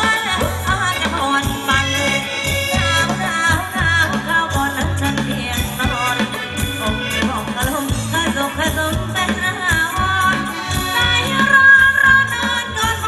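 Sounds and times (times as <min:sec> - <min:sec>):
live band dance music: 0:00.0 - 0:13.0.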